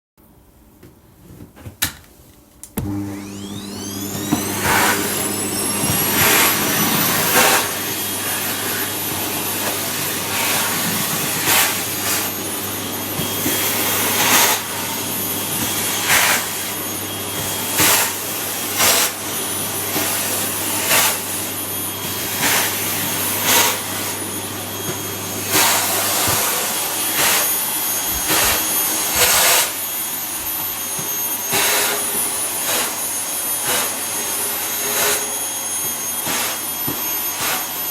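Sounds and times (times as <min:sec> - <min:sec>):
vacuum cleaner whining: 0:00.9 - 0:37.9.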